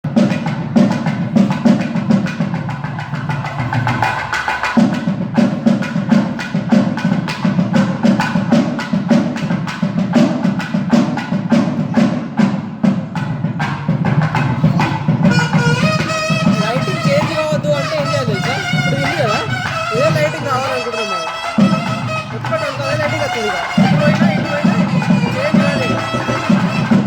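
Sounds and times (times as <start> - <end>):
fast drum strikes: 0.0 - 27.0.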